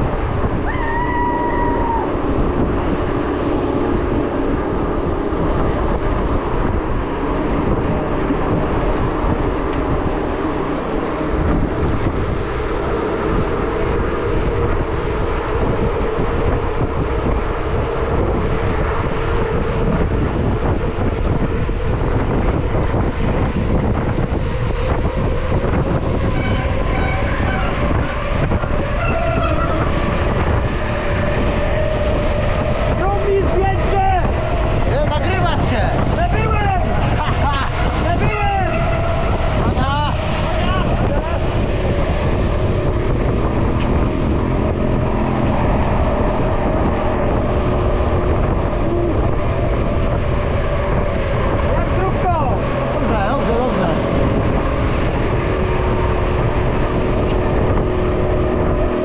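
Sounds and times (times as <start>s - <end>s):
low bicycle riding rumble: 0.0s - 59.0s
wind buffeting microphone: 0.0s - 59.0s.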